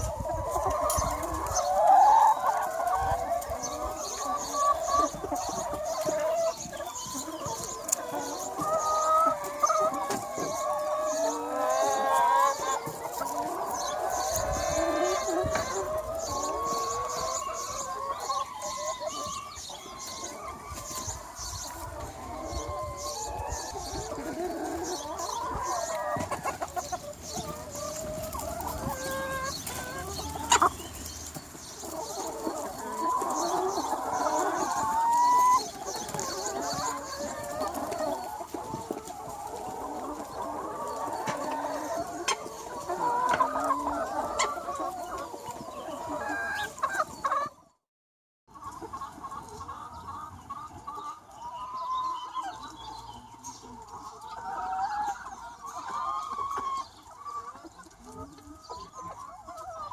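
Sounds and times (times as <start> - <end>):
chickens clucking: 0.0 - 47.8, 48.5 - 59.9.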